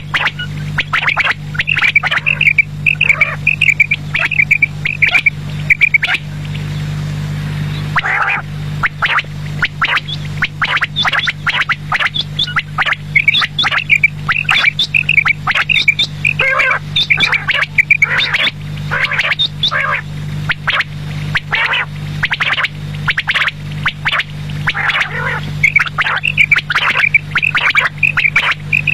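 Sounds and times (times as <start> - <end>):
quail calling: 0.0 - 6.3, 7.7 - 28.9
steady low hum: 0.0 - 28.9.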